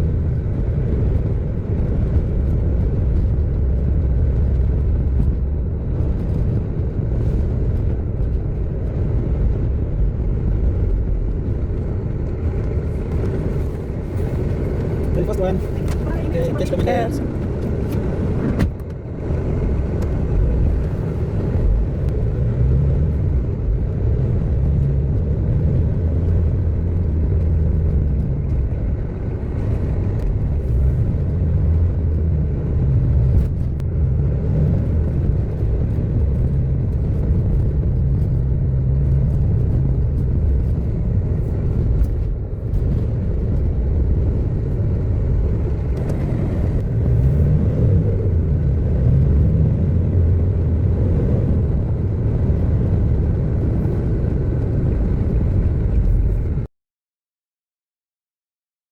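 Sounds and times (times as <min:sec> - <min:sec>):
car engine and road noise: 0:00.0 - 0:56.7.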